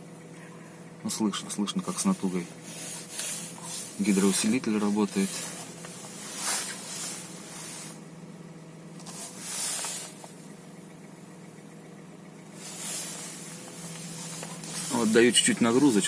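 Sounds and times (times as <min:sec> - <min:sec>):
car engine idling: 0:00.0 - 0:16.0
power steering pump hissing: 0:00.0 - 0:16.0.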